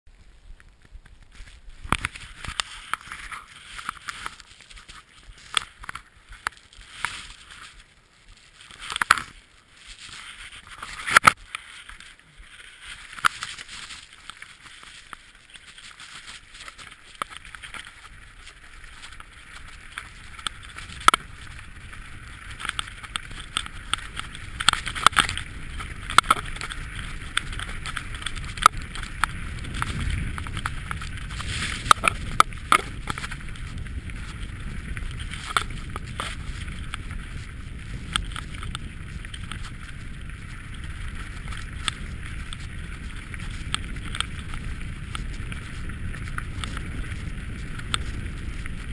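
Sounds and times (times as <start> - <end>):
tyres crunching on gravel: 0.7 - 48.9
bike rattling over bumps: 8.6 - 48.9.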